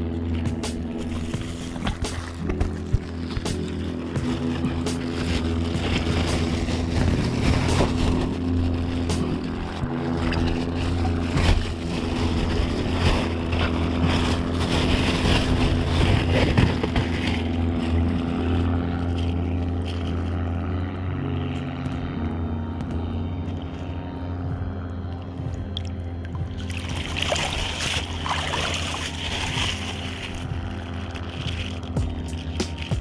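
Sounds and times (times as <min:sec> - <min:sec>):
motorboat engine droning: 0:00.0 - 0:33.0.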